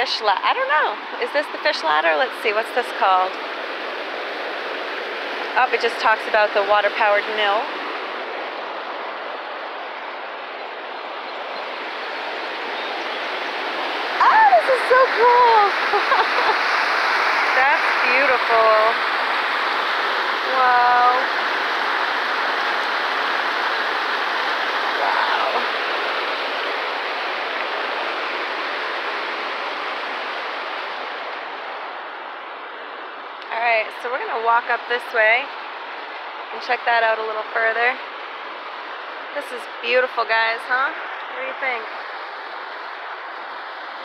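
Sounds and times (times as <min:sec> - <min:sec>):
water rushing over rocks: 0:00.0 - 0:44.0.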